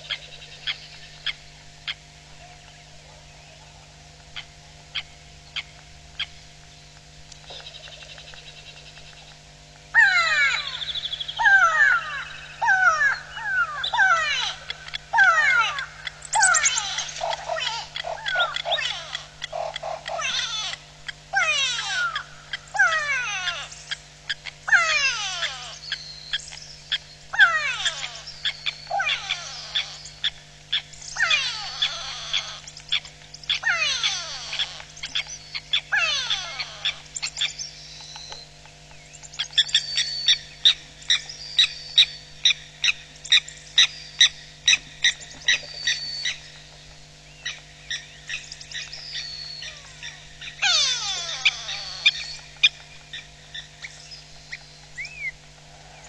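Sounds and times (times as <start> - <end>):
birds calling in alarm: 0.0 - 56.0.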